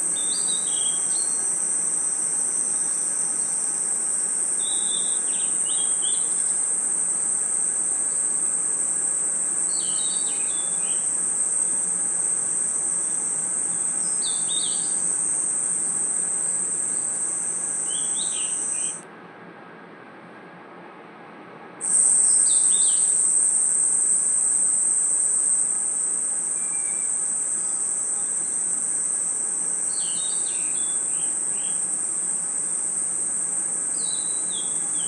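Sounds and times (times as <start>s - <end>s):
cricket chirps: 0.0s - 19.0s, 21.8s - 35.0s
insects trilling: 0.0s - 19.0s, 21.8s - 35.0s.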